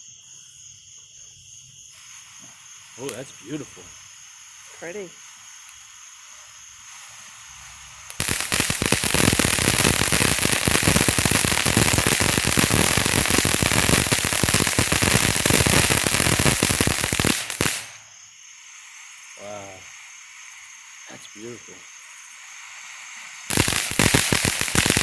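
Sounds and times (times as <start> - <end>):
firework fountain hissing: 1.8 - 25.0
rapid firework crackling: 1.9 - 25.0.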